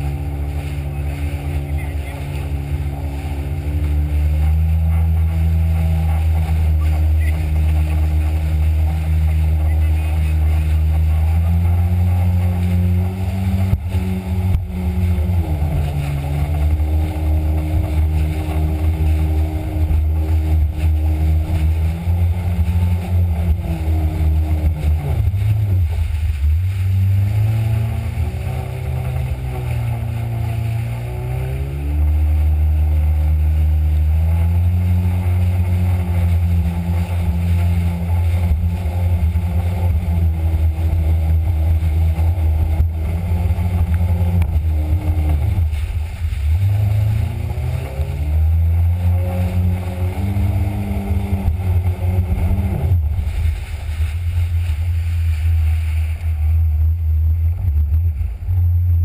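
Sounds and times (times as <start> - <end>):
jet ski engine running hard: 0.0 - 59.0
water rushing past hull: 0.0 - 59.0.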